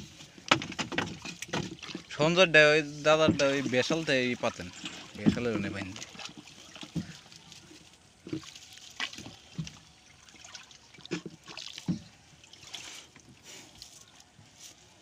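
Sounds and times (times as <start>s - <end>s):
water trickling and dripping: 0.0s - 14.4s
short splashes and taps: 0.2s - 14.2s.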